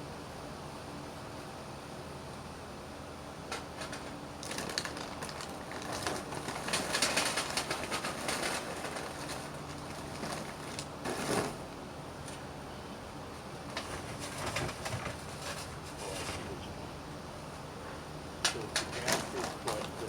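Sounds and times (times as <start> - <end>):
charcoal fire crackling and hissing: 3.4 - 20.0.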